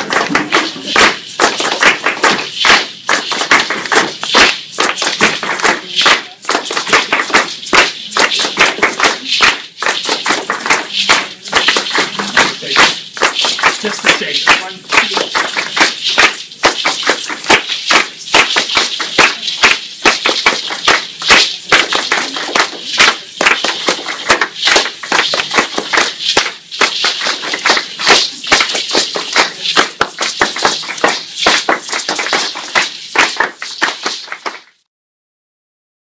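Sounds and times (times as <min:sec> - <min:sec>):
people clapping rhythmically: 0:00.0 - 0:34.9.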